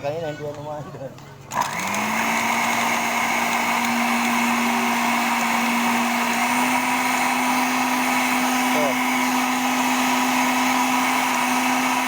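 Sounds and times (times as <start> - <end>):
blender motor whine: 1.5 - 12.0.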